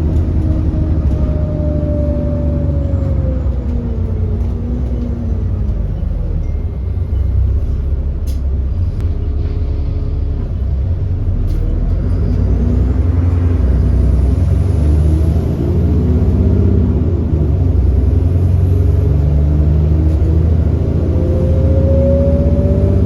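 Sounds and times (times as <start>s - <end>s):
diesel bus engine rumbling: 0.0s - 23.0s.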